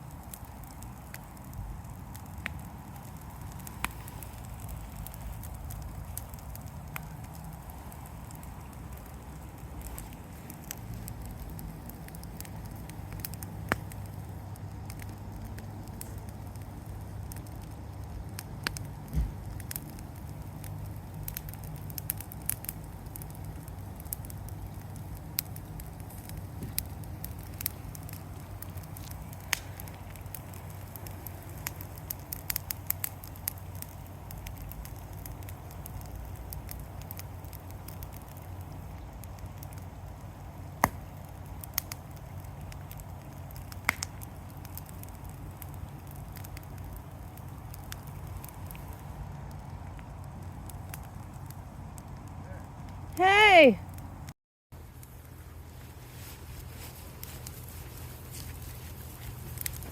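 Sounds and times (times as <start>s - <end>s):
steady low rumble: 0.0s - 53.2s
fire crackling and popping: 0.0s - 59.9s.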